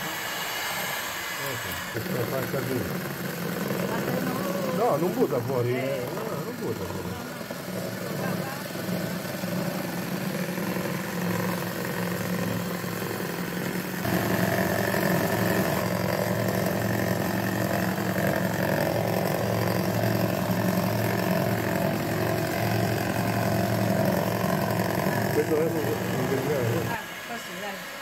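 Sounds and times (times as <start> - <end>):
electric hand mixer whisking batter: 0.0 - 28.0.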